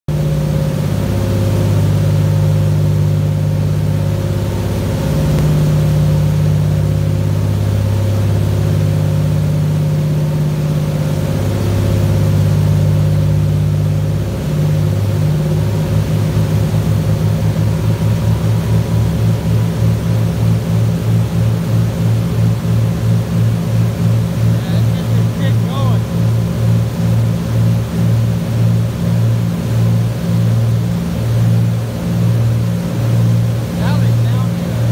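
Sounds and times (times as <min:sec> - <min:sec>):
marine diesel engines droning: 0:00.1 - 0:34.9.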